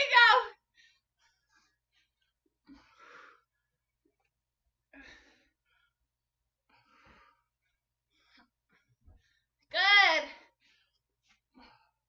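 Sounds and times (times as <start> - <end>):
woman breathing heavily: 0.6 - 4.1, 4.8 - 12.0.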